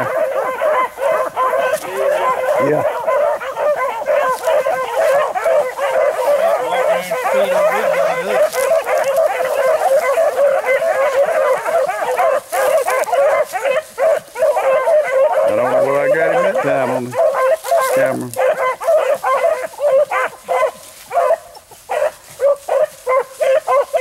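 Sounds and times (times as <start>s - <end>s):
hounds baying: 0.0s - 24.0s.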